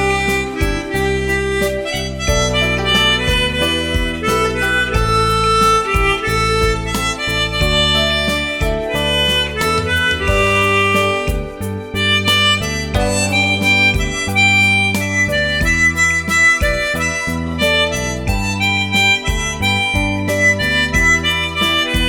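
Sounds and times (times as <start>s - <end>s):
backing track with bass and beat: 0.0s - 22.0s
harmonica melody: 0.0s - 22.0s.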